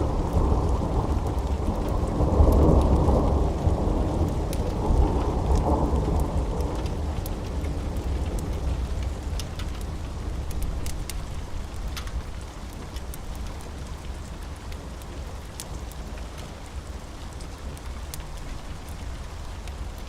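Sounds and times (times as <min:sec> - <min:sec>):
low rumble of thunder: 0:00.0 - 0:17.8
steady rain: 0:00.0 - 0:20.0
wood fire crackling: 0:00.0 - 0:20.0.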